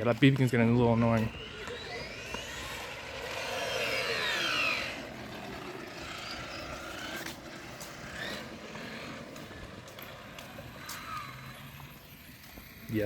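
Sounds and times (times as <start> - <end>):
electric toy car motor whining: 0.6 - 13.0.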